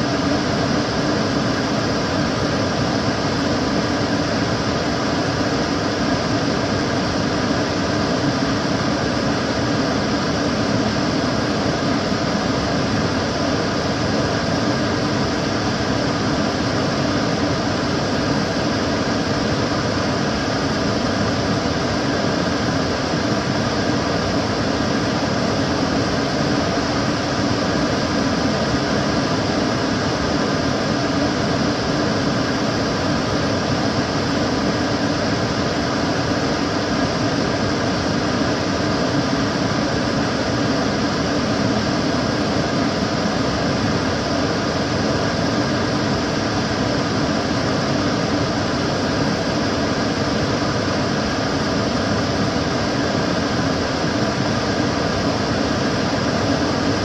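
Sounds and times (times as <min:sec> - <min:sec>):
extractor fan whooshing: 0:00.0 - 0:57.0.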